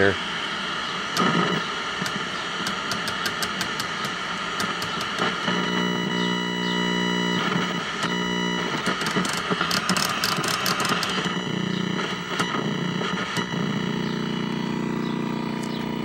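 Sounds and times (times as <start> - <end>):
tv electrical buzz: 0.0 - 16.0
crackling: 1.1 - 16.0.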